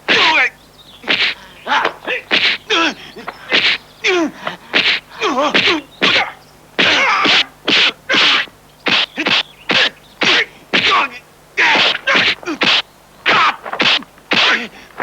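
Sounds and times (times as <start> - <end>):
fighters shouting and grunting: 0.1 - 8.5, 9.2 - 15.0.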